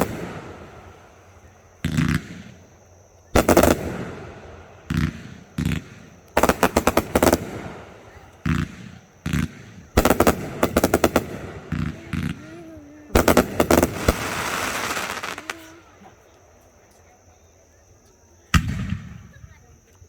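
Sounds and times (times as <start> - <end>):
fireworks bangs: 0.0 - 16.8, 18.5 - 19.7
fireworks crackling hiss: 0.0 - 16.9.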